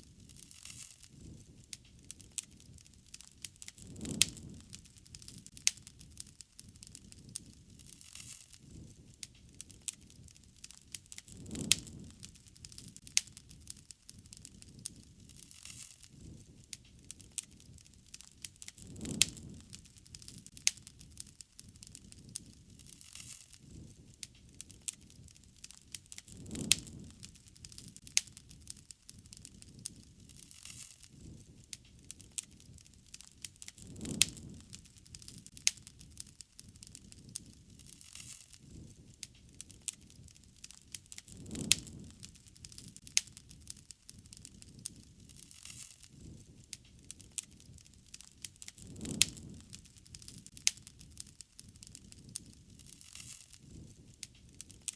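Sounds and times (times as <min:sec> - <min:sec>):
campfire crackling: 0:00.0 - 0:54.9
low rumble of flames: 0:00.0 - 0:54.9.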